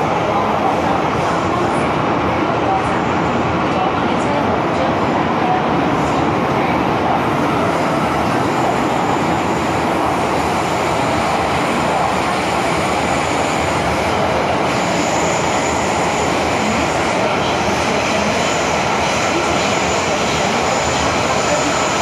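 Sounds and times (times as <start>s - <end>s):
train rumbling in motion: 0.0s - 22.0s.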